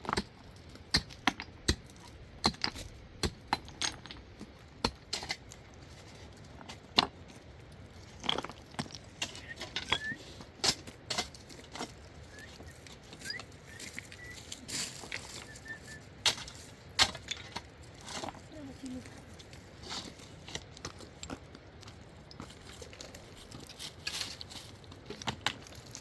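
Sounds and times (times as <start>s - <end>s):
stones clinking and knocking: 0.0s - 26.0s.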